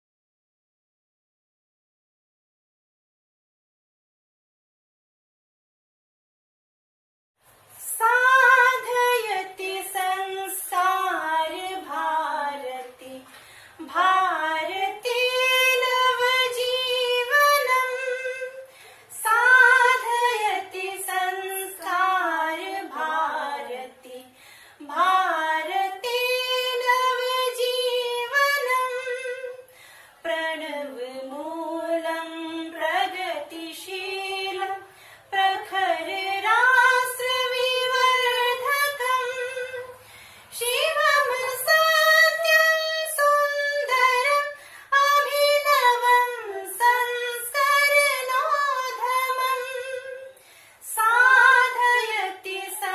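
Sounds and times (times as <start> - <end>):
woman singing unaccompanied: 7.7 - 52.9.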